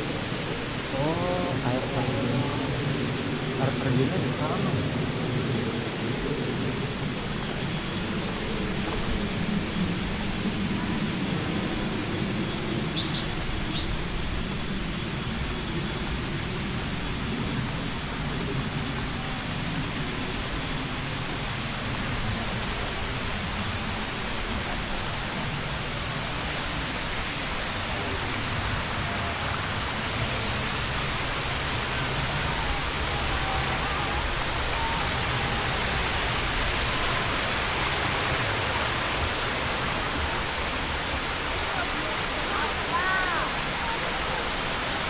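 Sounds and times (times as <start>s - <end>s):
water rushing: 0.0s - 45.0s.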